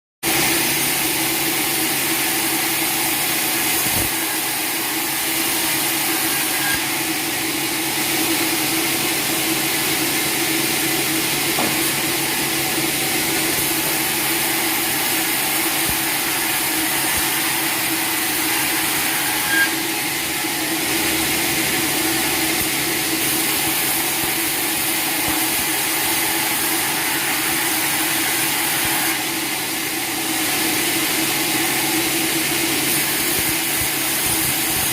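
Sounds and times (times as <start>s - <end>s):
sawmill machinery droning: 0.3s - 34.9s.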